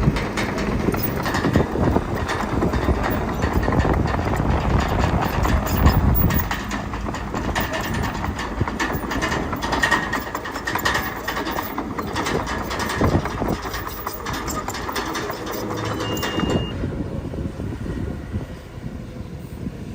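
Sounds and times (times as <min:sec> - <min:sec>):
steel tracks clanking: 0:00.0 - 0:16.9
bulldozer diesel engine running: 0:00.0 - 0:18.3.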